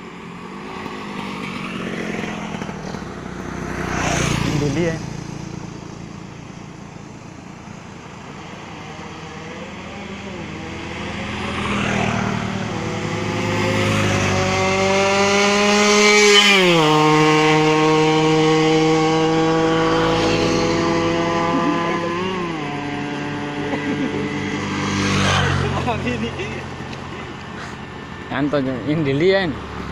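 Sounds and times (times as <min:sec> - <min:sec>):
two-stroke motorcycle accelerating: 0:00.0 - 0:29.9.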